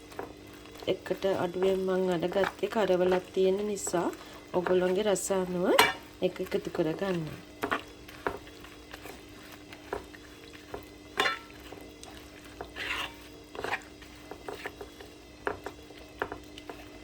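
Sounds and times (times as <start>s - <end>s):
spoon stirring curry in pot: 0.0s - 17.0s.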